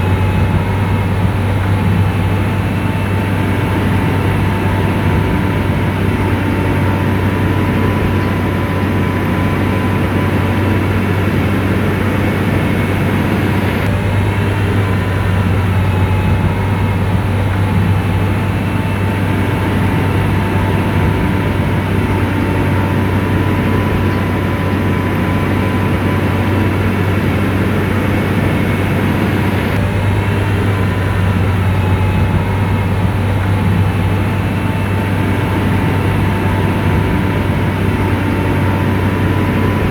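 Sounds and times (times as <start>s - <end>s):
diesel engine running: 0.0s - 39.9s
high-pitched whine: 0.0s - 39.9s.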